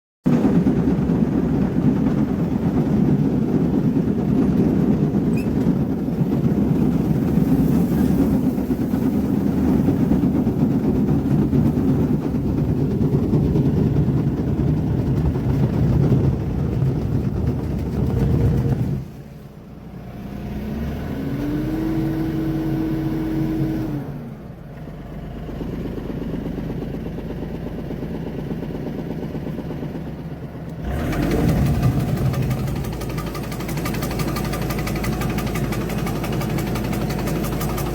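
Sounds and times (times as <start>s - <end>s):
diesel engine running: 0.3s - 37.9s.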